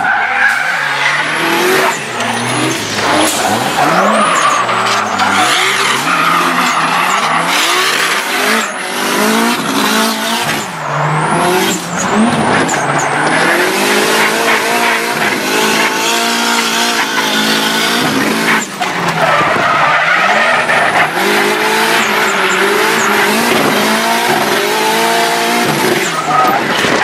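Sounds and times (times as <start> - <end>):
car engine revving hard: 0.0 - 27.0
tires squealing on asphalt: 0.0 - 27.0.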